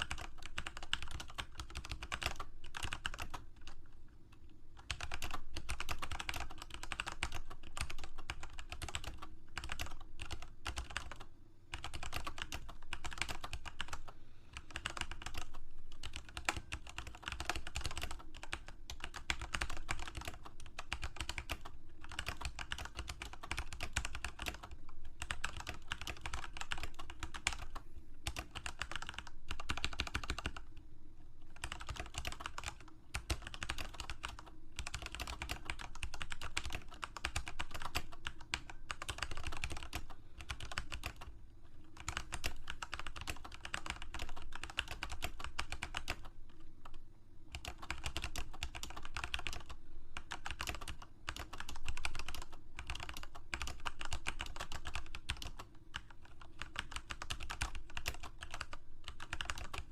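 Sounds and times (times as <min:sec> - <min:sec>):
computer keyboard typing: 0:00.0 - 0:30.8, 0:31.5 - 0:59.9.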